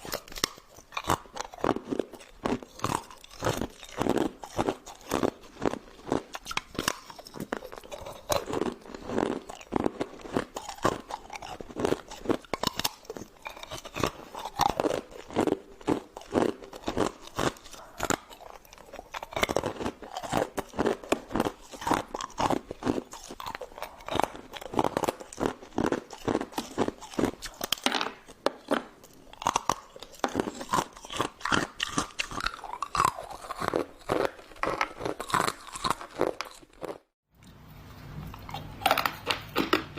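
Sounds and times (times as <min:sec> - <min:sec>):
chewing ice cubes: 0:00.0 - 0:37.2.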